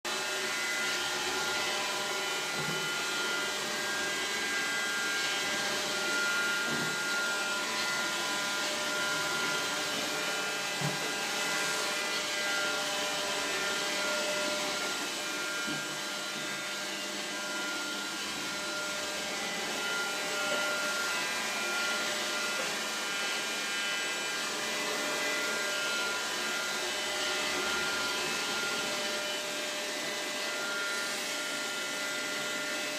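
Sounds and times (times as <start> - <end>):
robot vacuum whirring: 0.1 - 32.8.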